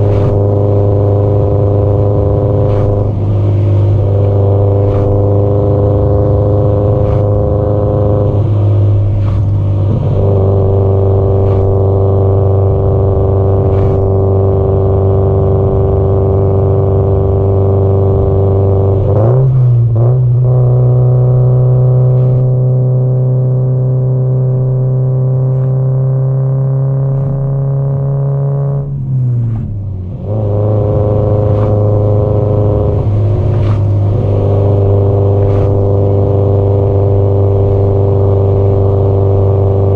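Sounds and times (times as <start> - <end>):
car engine and exhaust droning: 0.0 - 39.9.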